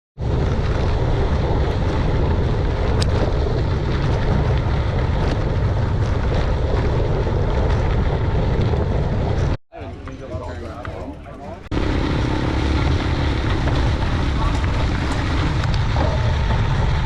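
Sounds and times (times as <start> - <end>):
wind buffeting microphone: 0.2 - 17.0.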